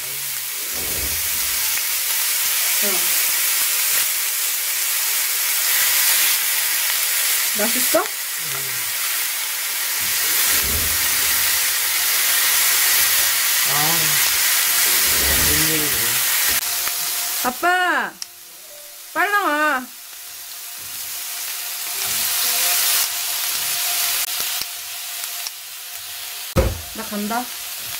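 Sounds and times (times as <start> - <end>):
beef sizzling on a grill pan: 0.0 - 27.9.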